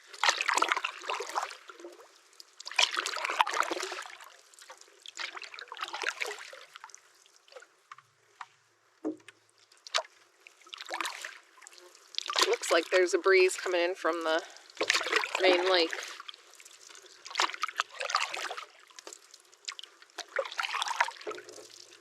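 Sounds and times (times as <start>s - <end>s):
canoe paddle strokes in water: 0.0s - 22.0s.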